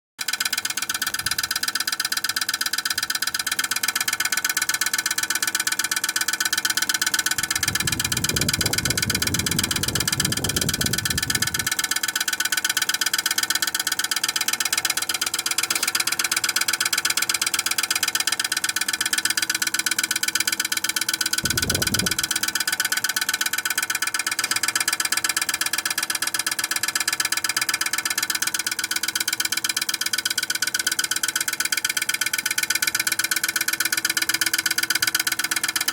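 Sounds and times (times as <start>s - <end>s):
heat pump buzzing: 5.9s - 35.9s.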